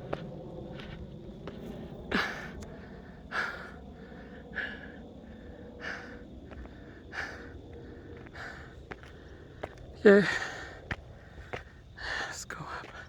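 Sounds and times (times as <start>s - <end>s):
man breathing hard: 2.1s - 13.0s.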